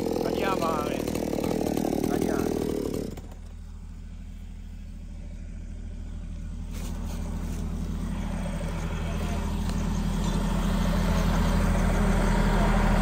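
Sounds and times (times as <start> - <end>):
heavy equipment engine idling: 0.0 - 13.0.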